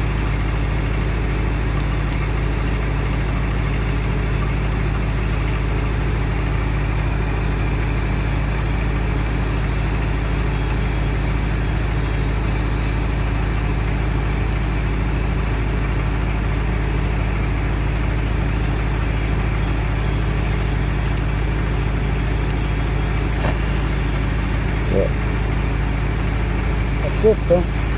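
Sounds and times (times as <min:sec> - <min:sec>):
welding arc hiss: 0:00.0 - 0:27.9
welding machine engine idling: 0:00.0 - 0:27.9.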